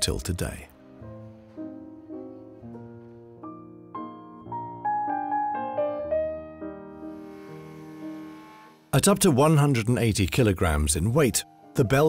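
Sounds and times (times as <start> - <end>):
slow piano melody: 0.0 - 9.0, 10.6 - 12.0.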